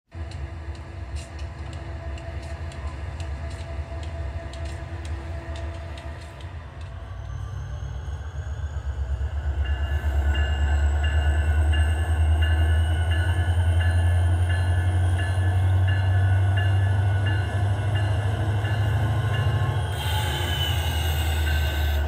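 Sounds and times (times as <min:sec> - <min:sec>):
model train low hum: 0:00.1 - 0:22.0.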